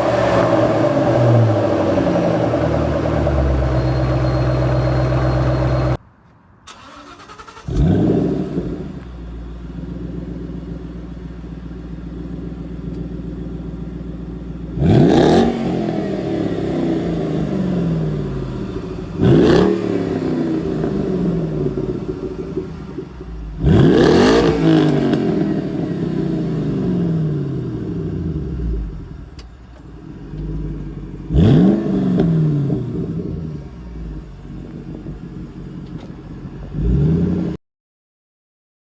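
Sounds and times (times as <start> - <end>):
car engine starting and revving: 0.0 - 6.0, 6.7 - 37.6.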